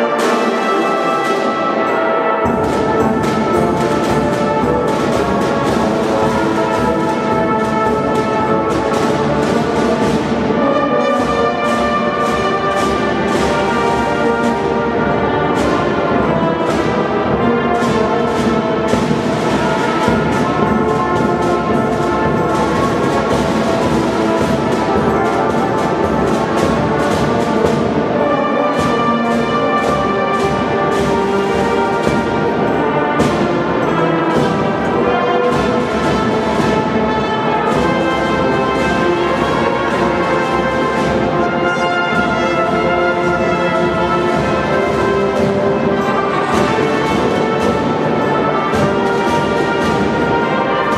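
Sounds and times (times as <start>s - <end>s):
brass instruments melody: 0.0s - 50.9s
snare and bass drums beat: 2.5s - 50.9s.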